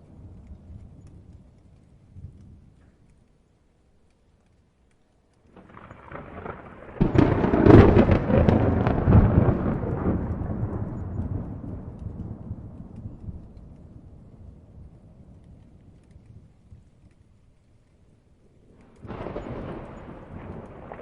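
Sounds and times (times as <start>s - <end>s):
thunder rumbling and crackling: 0.0s - 3.8s, 5.5s - 21.0s.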